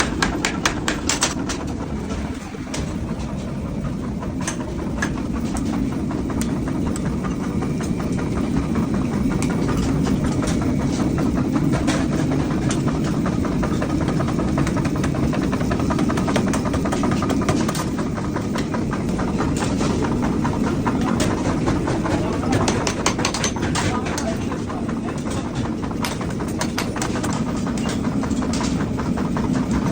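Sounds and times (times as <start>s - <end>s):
fast clatter of clicks: 0.0s - 3.5s, 4.4s - 29.9s
workshop machinery drone: 0.0s - 29.9s.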